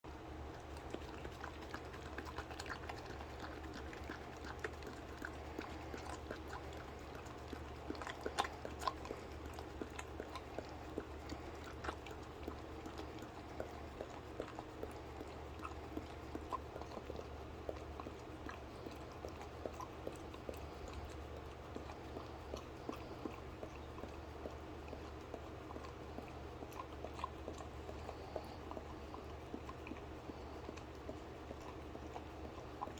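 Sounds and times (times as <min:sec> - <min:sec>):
steady low hum: 0:00.0 - 0:32.9
dog licking and smacking: 0:00.1 - 0:32.9.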